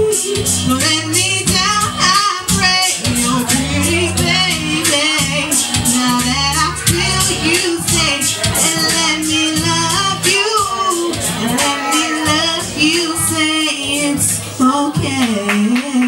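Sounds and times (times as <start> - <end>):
musical accompaniment with bass: 0.0 - 16.0
woman singing into microphone: 0.0 - 16.0.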